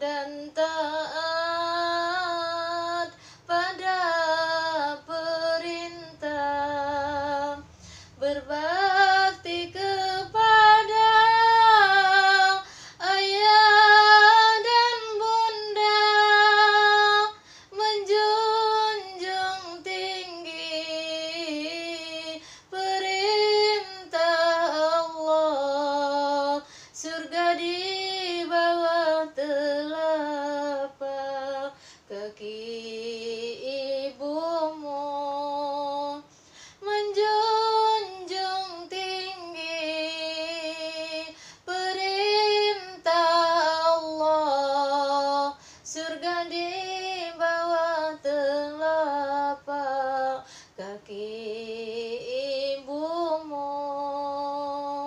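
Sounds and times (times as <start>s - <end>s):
woman singing a lullaby: 0.0s - 55.0s.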